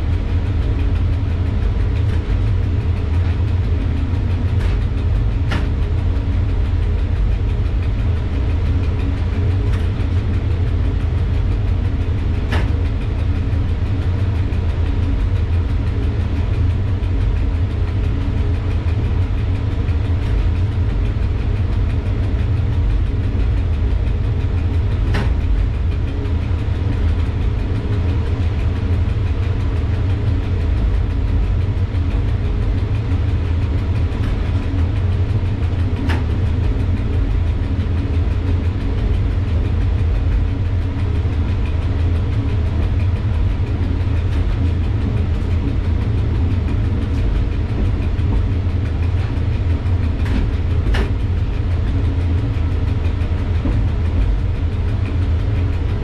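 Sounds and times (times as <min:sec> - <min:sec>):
locomotive low rumble and hum: 0:00.0 - 0:56.0.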